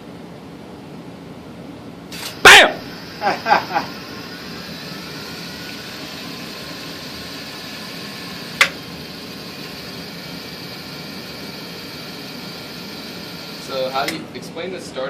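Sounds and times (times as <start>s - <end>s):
organ motor hum and hiss: 2.1s - 15.0s.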